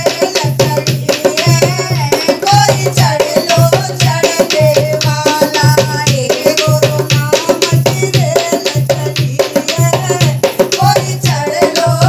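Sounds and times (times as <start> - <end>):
stick beating on drum: 0.0 - 12.0
women singing devotional song: 0.0 - 12.0.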